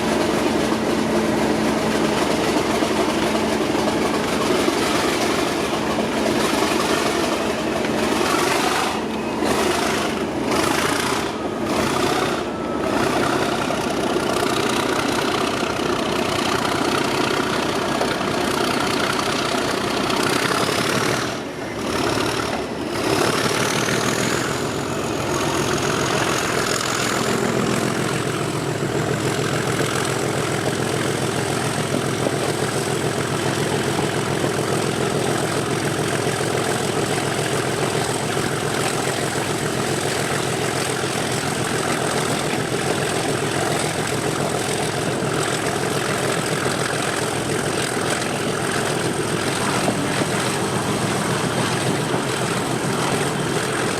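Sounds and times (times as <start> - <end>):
locomotive diesel engine working: 0.0 - 53.9.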